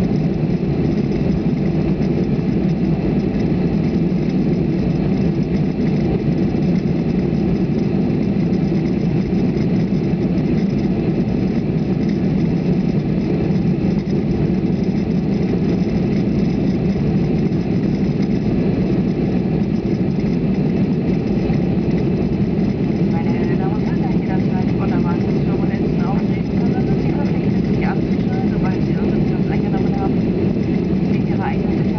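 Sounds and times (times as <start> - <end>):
airliner engines droning: 0.0 - 31.9.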